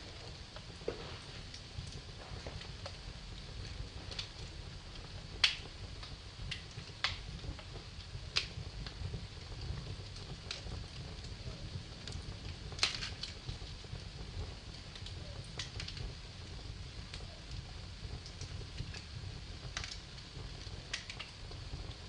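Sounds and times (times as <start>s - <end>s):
low steady rumble: 0.0s - 22.0s
wood fire crackling: 0.0s - 22.0s.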